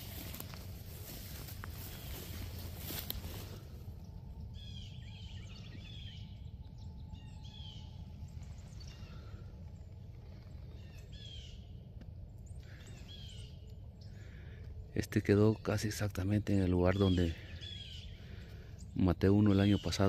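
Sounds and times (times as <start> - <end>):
steady low rumble: 0.0 - 20.0
wild birds calling: 0.0 - 20.0.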